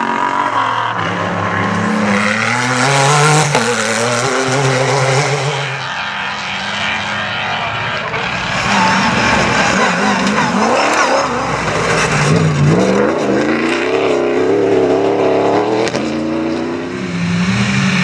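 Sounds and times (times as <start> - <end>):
rally car engine revving: 0.0 - 18.0
rough car engine: 0.0 - 18.0.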